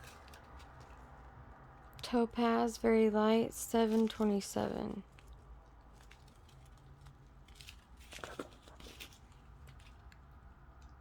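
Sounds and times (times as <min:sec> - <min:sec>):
plastic bags rustling and clicking: 0:00.0 - 0:02.2, 0:03.7 - 0:10.9.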